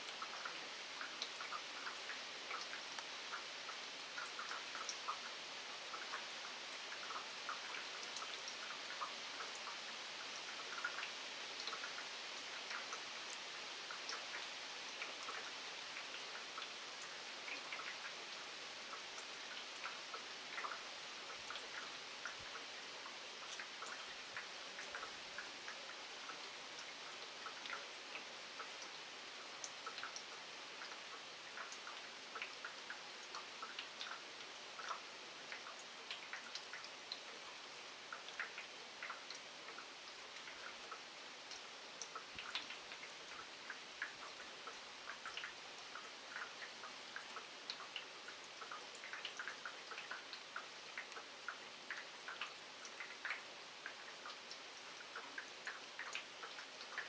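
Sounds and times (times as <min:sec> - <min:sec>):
raindrops ticking and splashing: 0:00.0 - 0:57.0.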